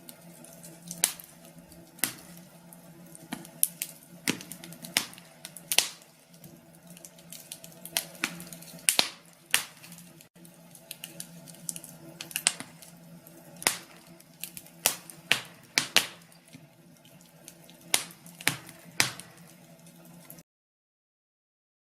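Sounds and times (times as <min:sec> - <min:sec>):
wood fire crackling and popping: 0:00.0 - 0:20.4.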